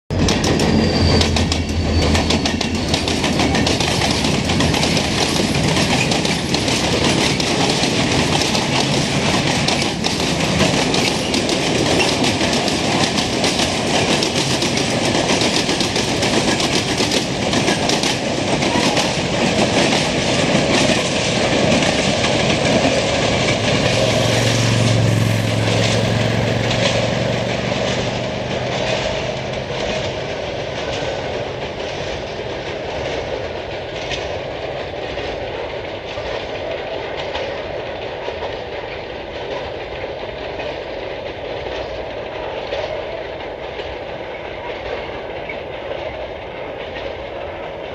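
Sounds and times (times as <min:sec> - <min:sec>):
train rumble: 0:00.1 - 0:47.9
train wheels clacking on rails: 0:00.1 - 0:47.9.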